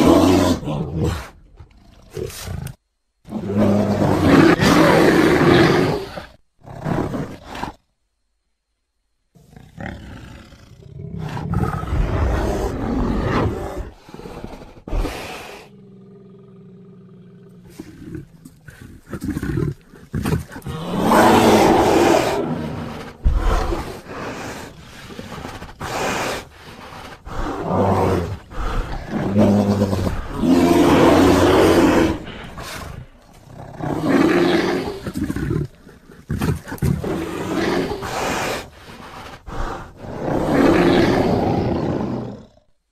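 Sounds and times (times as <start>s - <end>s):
bear growling and roaring: 0.0s - 7.8s, 9.4s - 42.9s.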